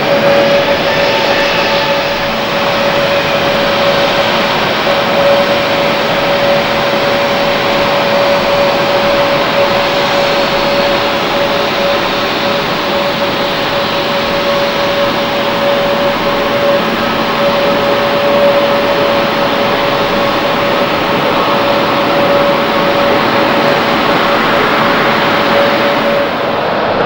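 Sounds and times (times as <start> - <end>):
jet airliner engines running: 0.0 - 27.0.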